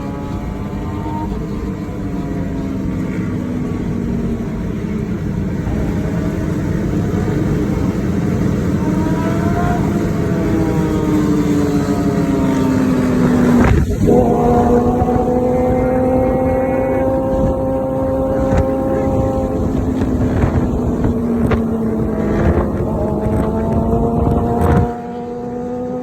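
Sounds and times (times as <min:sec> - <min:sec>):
motorcycle exhaust at road speed: 0:00.0 - 0:26.0.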